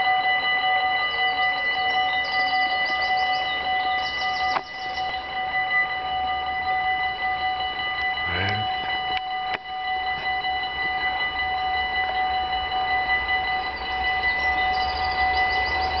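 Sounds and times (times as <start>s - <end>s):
level crossing bells ringing: 0.0s - 16.0s.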